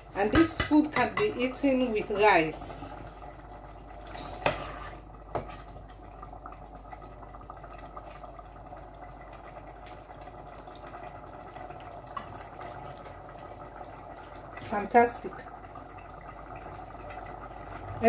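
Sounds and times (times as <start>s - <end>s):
stew bubbling in a pot: 0.0s - 18.0s.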